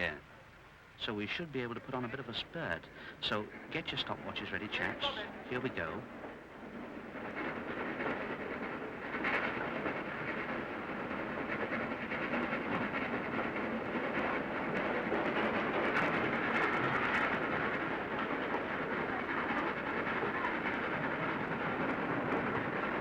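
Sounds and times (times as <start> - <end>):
steam train running on rails: 0.0 - 23.0.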